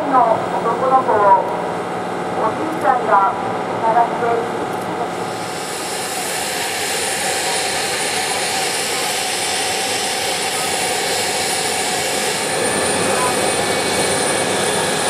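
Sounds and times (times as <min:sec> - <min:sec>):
high-pitched whine: 0:00.0 - 0:15.0
jet engine rush: 0:00.0 - 0:15.0.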